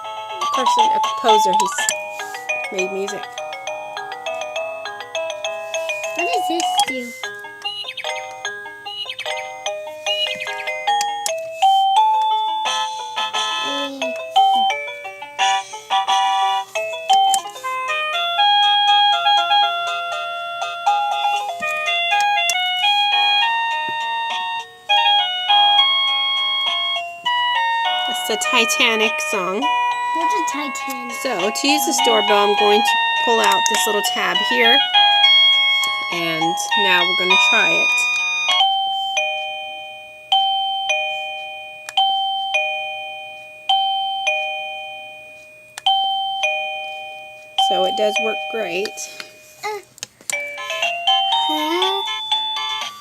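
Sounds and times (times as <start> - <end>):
electronic doorbell chime melody: 0.0 - 49.7, 50.3 - 53.0.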